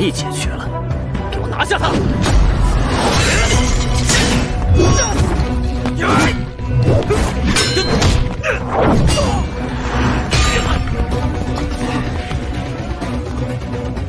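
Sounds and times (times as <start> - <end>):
dramatic background music: 0.0 - 14.0.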